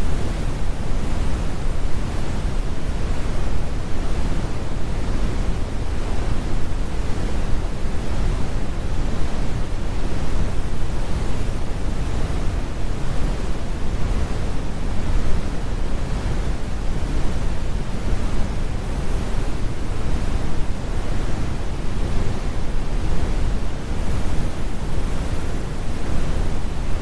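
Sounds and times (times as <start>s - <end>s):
brown noise: 0.0s - 27.0s.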